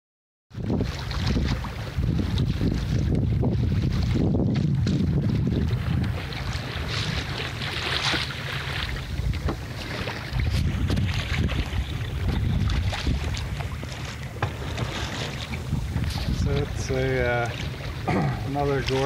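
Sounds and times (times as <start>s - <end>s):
water rushing along boat hull: 0.5s - 19.0s
wind buffeting microphone: 0.5s - 19.0s.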